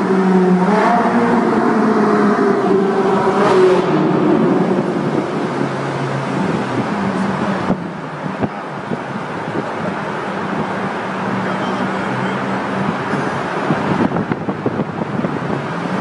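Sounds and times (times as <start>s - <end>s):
car engine revving: 0.0s - 16.0s
road noise: 0.0s - 16.0s.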